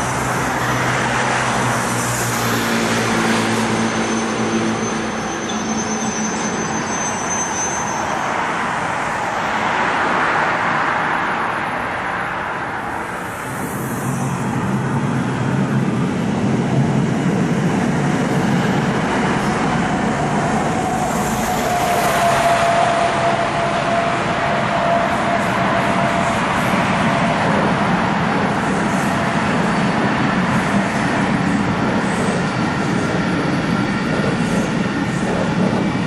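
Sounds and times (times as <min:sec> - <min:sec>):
road traffic passing: 0:00.0 - 0:05.4, 0:08.3 - 0:36.0
freight train rumbling over bridge: 0:00.0 - 0:36.0.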